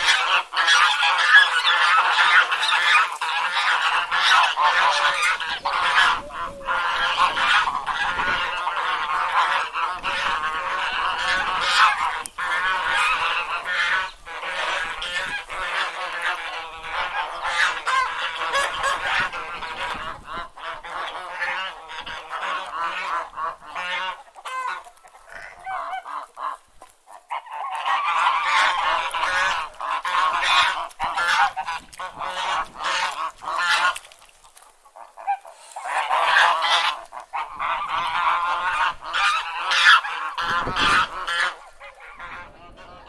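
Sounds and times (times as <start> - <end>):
geese honking: 0.0 - 43.0.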